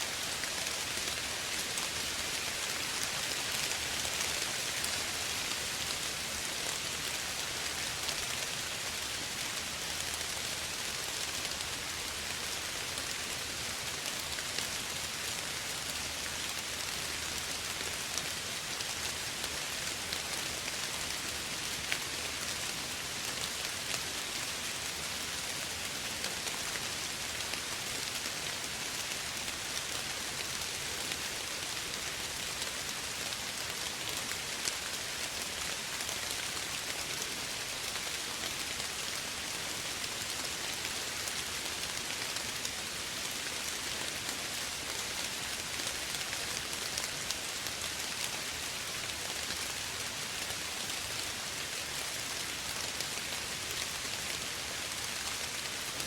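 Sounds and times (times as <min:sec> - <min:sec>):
soft rain falling: 0:00.0 - 0:56.0.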